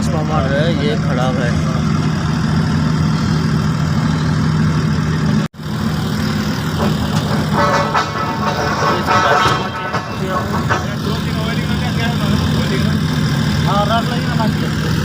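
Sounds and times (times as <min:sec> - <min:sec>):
low machine hum: 0:01.6 - 0:15.0.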